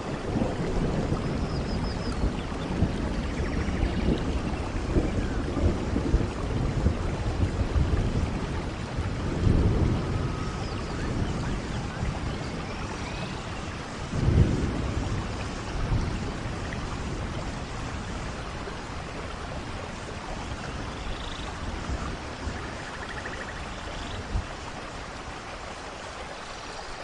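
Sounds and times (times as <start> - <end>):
low thunder rumbling: 0.0 - 25.7
steady rain: 0.0 - 27.0.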